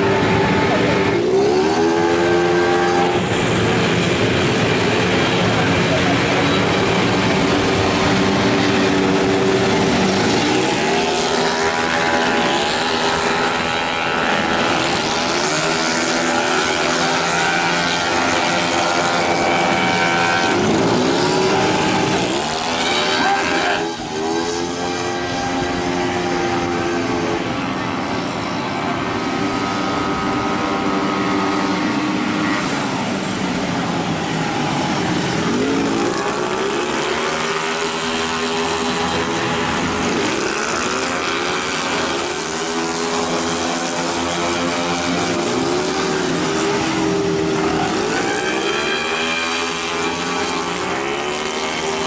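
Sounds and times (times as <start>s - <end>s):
scooter engines whining: 0.0s - 52.0s.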